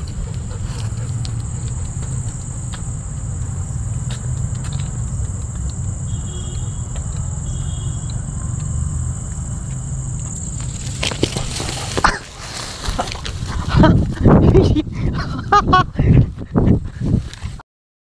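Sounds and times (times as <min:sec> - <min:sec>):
night insects trilling: 0:00.0 - 0:17.2
steady low rumble: 0:00.0 - 0:17.3.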